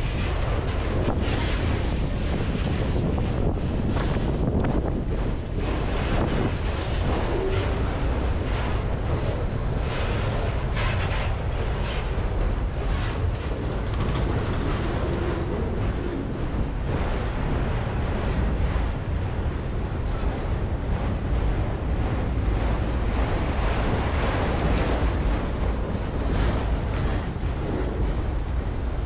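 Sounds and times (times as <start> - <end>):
steel wheels clattering on rails: 0.0 - 29.0.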